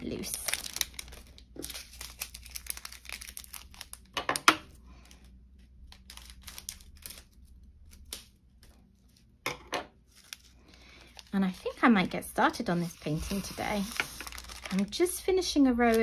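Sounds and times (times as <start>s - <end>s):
plastic bag crinkling: 0.0s - 4.2s, 4.9s - 9.3s, 10.0s - 16.0s.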